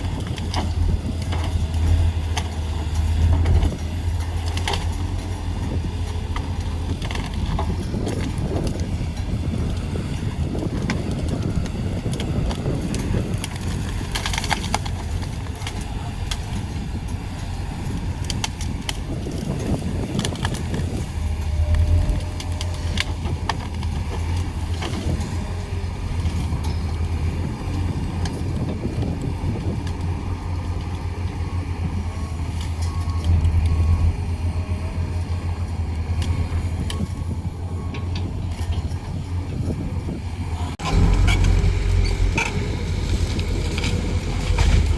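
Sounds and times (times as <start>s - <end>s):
excavator diesel engine droning: 0.0s - 44.9s.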